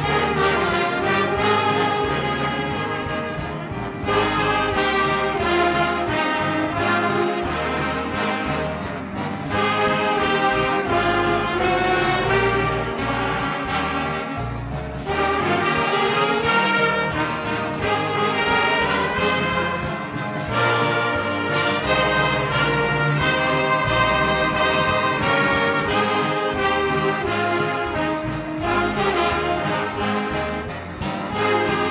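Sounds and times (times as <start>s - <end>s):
brass ensemble playing chords: 0.0s - 31.9s.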